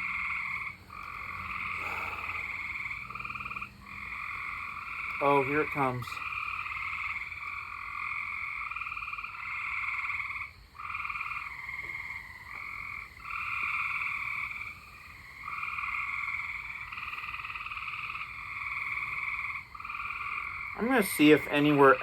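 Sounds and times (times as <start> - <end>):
frogs trilling: 0.0 - 22.0.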